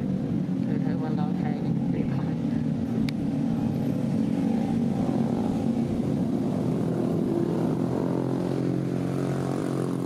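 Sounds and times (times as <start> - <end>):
engine-like drone: 0.0 - 10.0.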